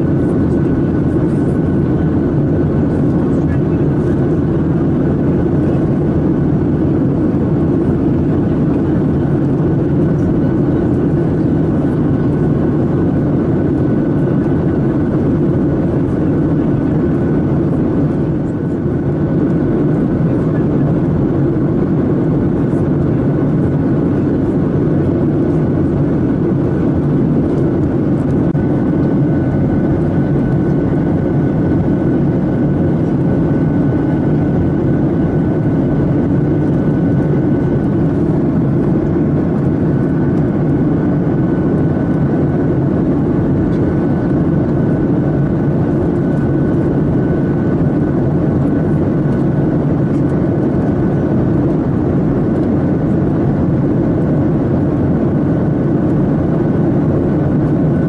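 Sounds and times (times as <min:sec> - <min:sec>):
aircraft drone in flight: 0:00.0 - 0:58.0.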